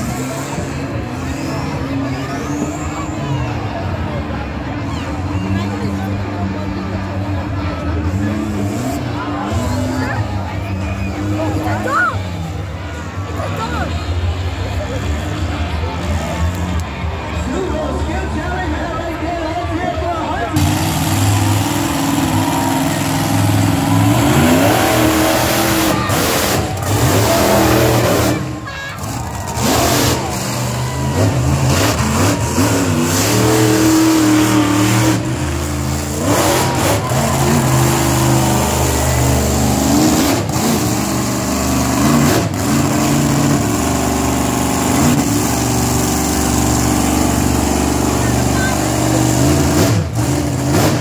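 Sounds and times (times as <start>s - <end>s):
small engines revving: 0.0s - 17.4s, 20.6s - 51.0s.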